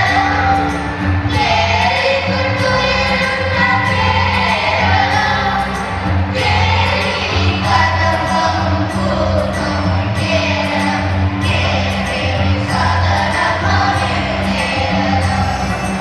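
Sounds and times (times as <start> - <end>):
song with singing voices and beat: 0.0 - 16.0.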